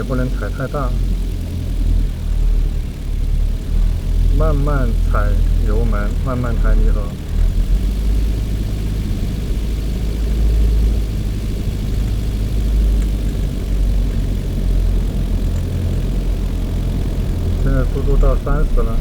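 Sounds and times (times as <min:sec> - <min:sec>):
car engine low drone: 0:00.0 - 0:19.0.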